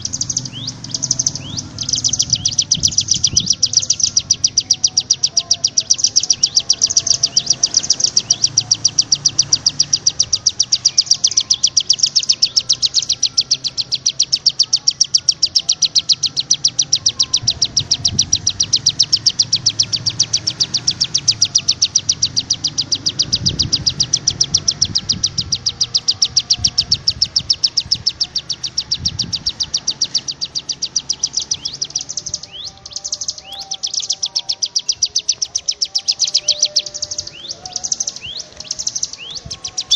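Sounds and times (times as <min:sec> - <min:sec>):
birds whistling: 0:00.0 - 0:39.9
songbirds chirping: 0:00.0 - 0:39.9.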